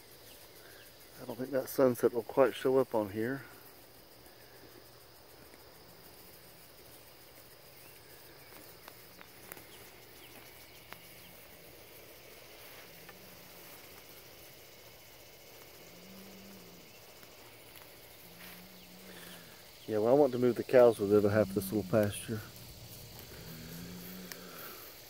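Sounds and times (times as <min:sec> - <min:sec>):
crickets and insects buzzing: 0:00.0 - 0:25.0.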